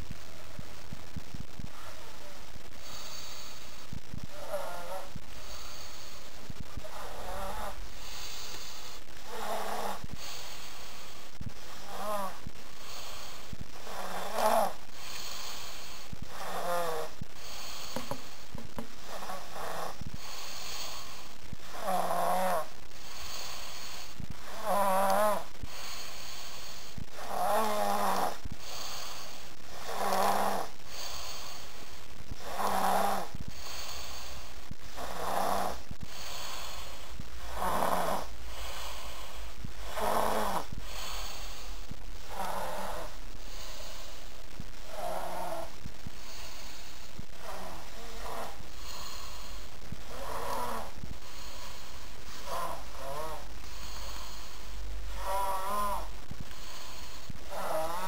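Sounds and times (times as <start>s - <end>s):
child snoring: 1.4s - 58.0s.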